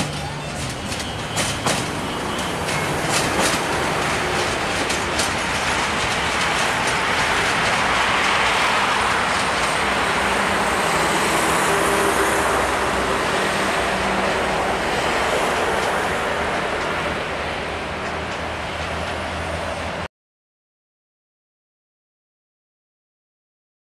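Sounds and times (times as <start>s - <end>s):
train rolling on tracks: 0.0s - 20.1s.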